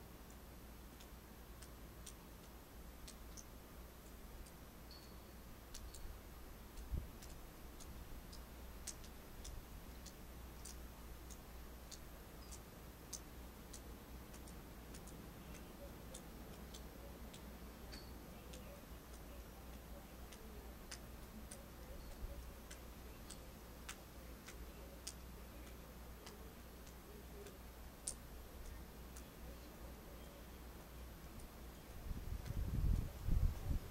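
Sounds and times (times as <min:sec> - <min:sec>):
faint high ticks: 0:00.2 - 0:33.4.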